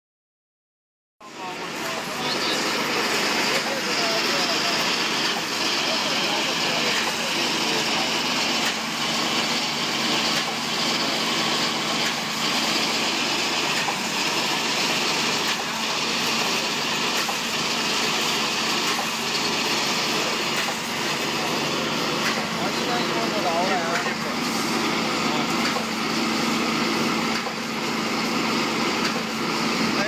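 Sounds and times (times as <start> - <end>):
wire cutting machine whirring: 1.3 - 30.0.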